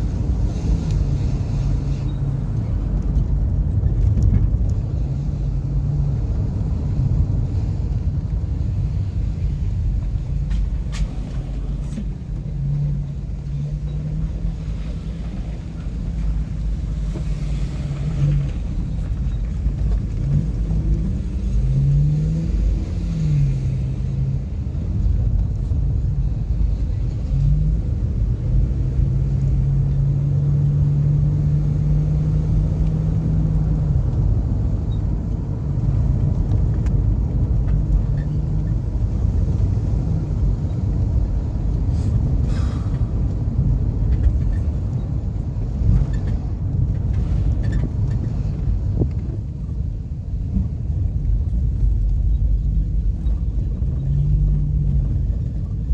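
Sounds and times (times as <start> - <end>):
car engine hum: 0.0 - 55.9
road rumble: 0.0 - 55.9.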